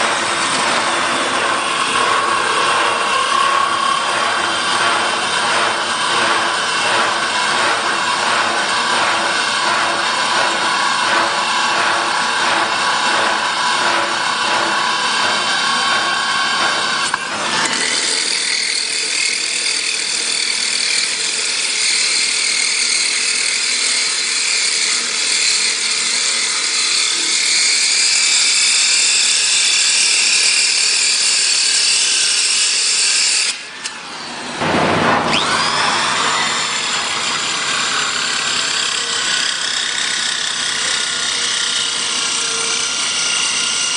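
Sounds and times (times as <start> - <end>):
electric drill whine: 0.0 - 34.6, 35.3 - 43.9.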